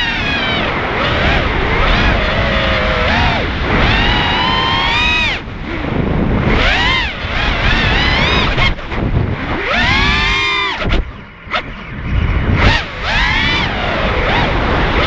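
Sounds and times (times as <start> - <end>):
drone motors whining: 0.0 - 15.0
wind rush on microphone: 0.0 - 15.0.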